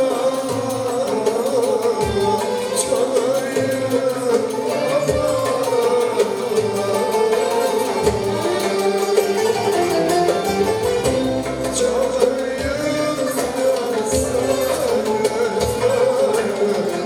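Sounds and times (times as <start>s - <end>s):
folk music ensemble: 0.0s - 17.0s.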